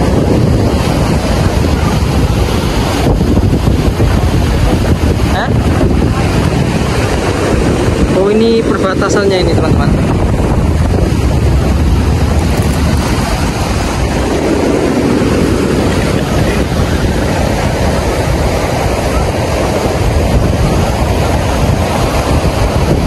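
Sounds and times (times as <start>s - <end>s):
deep rumble: 0.0s - 23.0s
surf breaking on shore: 0.0s - 23.0s
wind buffeting microphone: 0.0s - 23.0s.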